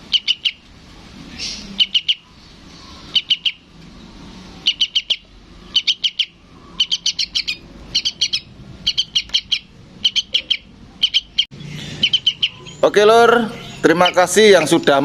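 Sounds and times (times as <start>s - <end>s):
bird chirping: 0.0s - 0.7s, 1.3s - 15.0s.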